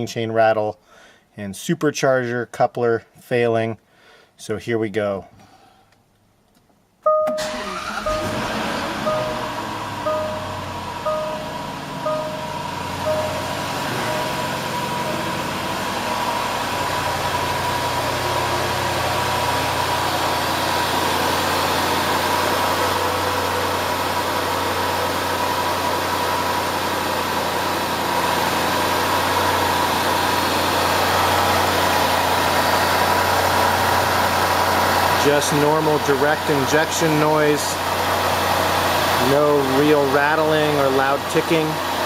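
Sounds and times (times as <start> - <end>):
car engine idling: 7.4 - 42.0.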